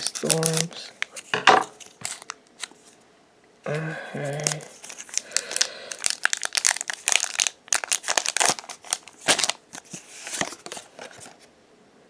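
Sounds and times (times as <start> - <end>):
foil wrapper crinkling and tearing: 0.0 - 2.8, 4.2 - 11.4.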